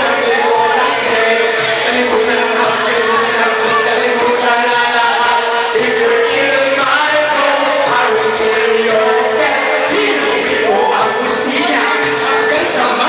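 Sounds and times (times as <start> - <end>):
loud music: 0.0 - 13.0
men singing together: 0.0 - 13.0.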